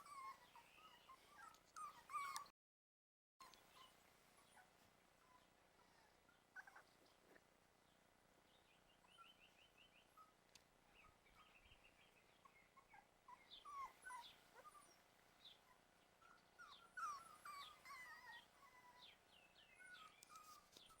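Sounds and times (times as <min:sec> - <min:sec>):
puppies whimpering: 0:00.0 - 0:02.5, 0:03.4 - 0:07.0, 0:09.0 - 0:21.0.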